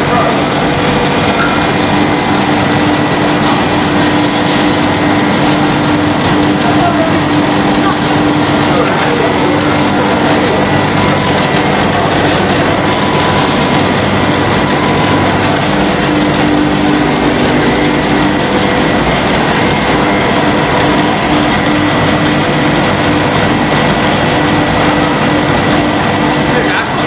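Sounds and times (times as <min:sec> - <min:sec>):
machine drone: 0:00.0 - 0:27.0
steady hum tones: 0:00.0 - 0:27.0.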